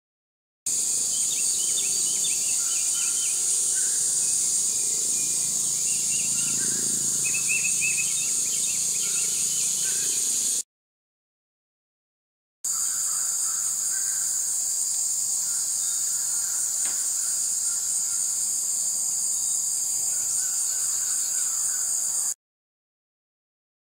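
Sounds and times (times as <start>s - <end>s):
cicadas buzzing: 0.7s - 10.6s, 12.7s - 22.4s.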